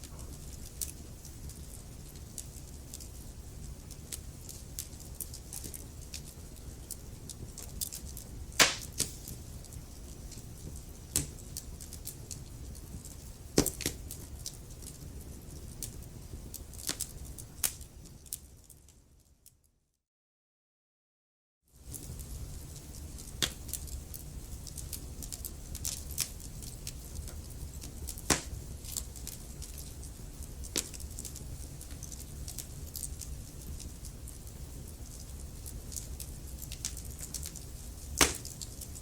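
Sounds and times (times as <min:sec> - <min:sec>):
wood fire crackling: 0:00.0 - 0:19.6, 0:21.8 - 0:39.0.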